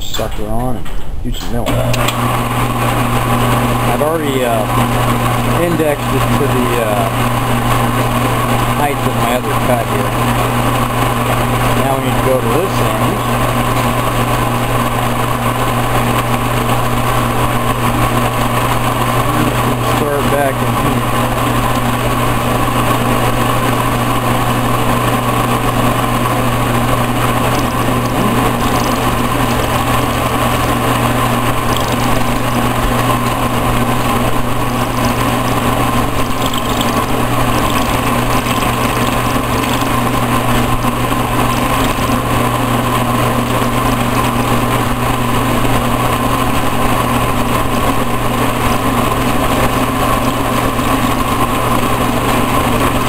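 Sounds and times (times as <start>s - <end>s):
milling machine humming and whining: 1.7s - 53.0s.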